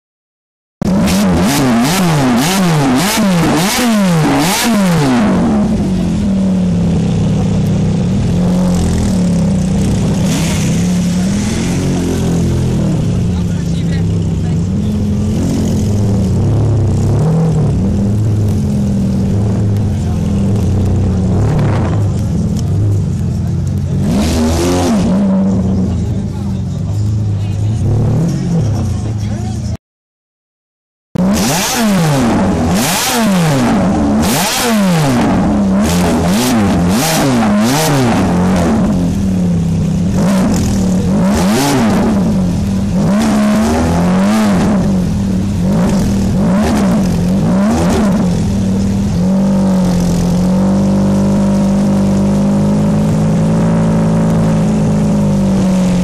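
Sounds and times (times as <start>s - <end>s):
sports car engine revving: 0.8s - 29.8s, 31.2s - 56.0s
sports car engine idling: 1.9s - 29.8s, 35.2s - 56.0s.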